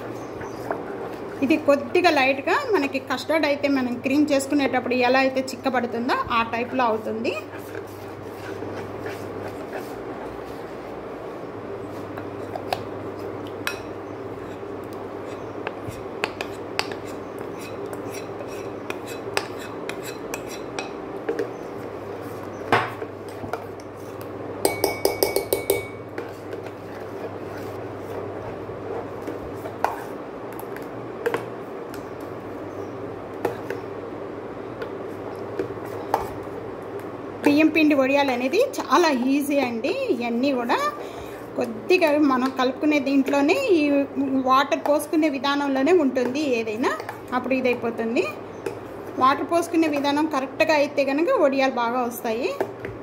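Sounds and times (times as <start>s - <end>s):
spoon stirring thick batter: 0.0s - 33.9s, 34.7s - 51.3s
cooktop hum: 0.0s - 53.0s.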